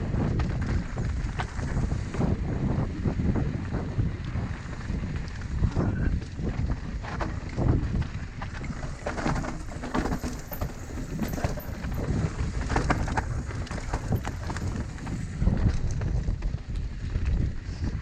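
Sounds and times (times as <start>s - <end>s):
bike rattling over rough ground: 0.0s - 18.0s
wind rumble on microphone: 0.0s - 18.0s.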